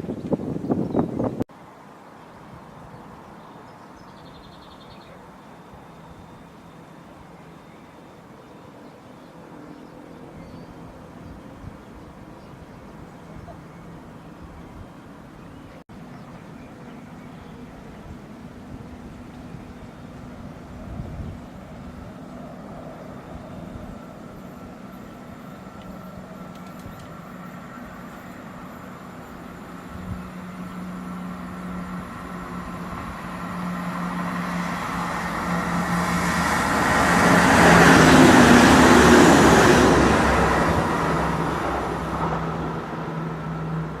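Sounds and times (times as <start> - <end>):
train passing: 1.5 - 44.0.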